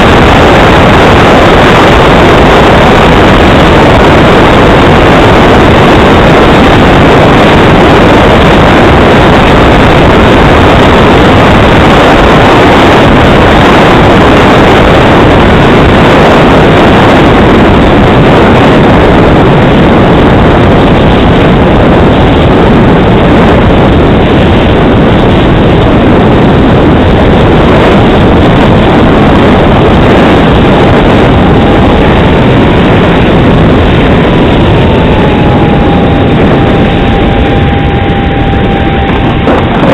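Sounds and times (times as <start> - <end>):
faint whine: 0.0 - 39.9
model jet engine rushing: 0.0 - 39.9.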